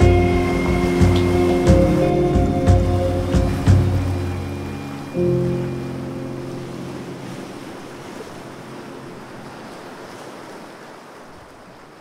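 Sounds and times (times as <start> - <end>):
held music notes: 0.0 - 10.0
steady rushing noise: 0.0 - 10.5.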